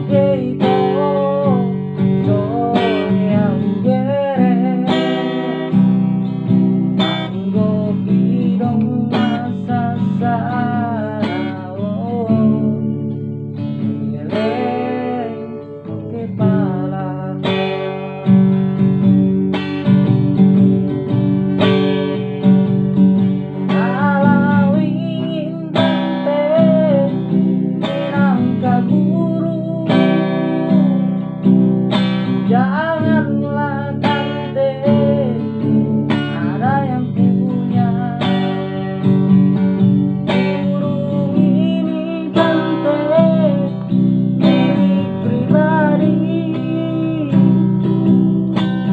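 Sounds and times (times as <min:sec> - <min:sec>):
person singing: 0:00.0 - 0:05.8, 0:07.0 - 0:18.2, 0:23.5 - 0:48.9
acoustic guitar strumming: 0:00.0 - 0:48.9.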